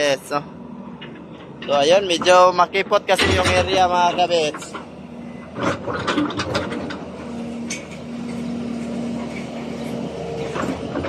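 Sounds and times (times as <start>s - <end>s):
excavator engine running: 0.0s - 11.0s
excavator metal clanks: 0.0s - 11.0s.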